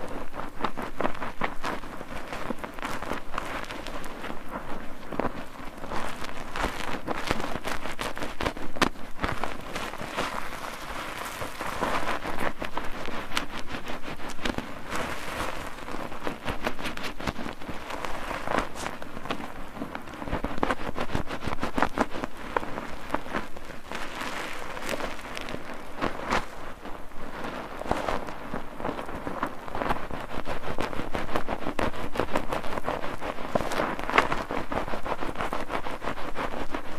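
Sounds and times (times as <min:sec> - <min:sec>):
soap foam crackling: 0:00.0 - 0:36.9.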